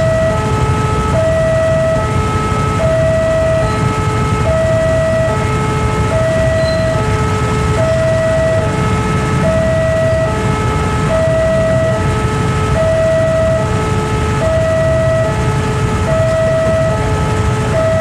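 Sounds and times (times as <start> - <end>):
low rumble of engines: 0.0 - 18.0
two-tone level-crossing alarm: 0.0 - 18.0.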